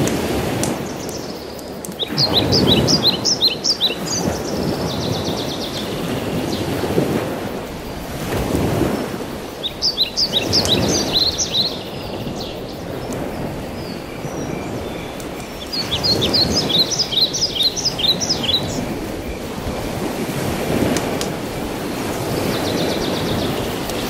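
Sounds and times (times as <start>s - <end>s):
birds chirping: 0.8s - 6.9s, 8.8s - 19.9s, 21.6s - 24.0s.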